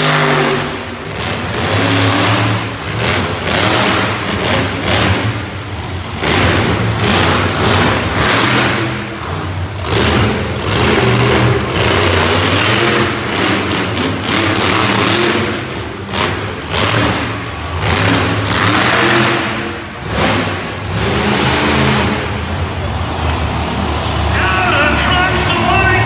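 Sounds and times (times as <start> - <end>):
monster truck engine revving: 0.0 - 26.0.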